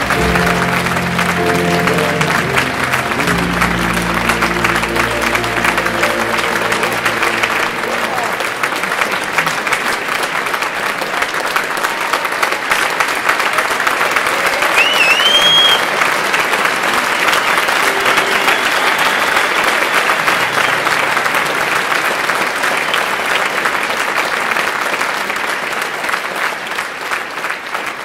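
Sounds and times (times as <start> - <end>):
large audience applauding: 0.0 - 28.0.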